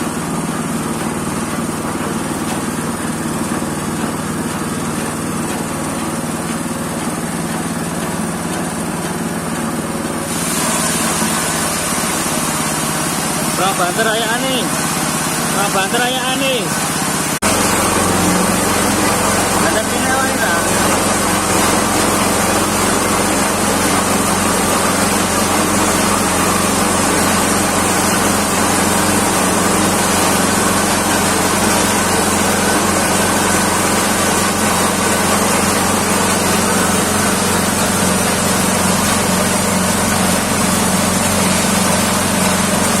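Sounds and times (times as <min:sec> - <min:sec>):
feed crumbler machine running: 0:00.0 - 0:43.0.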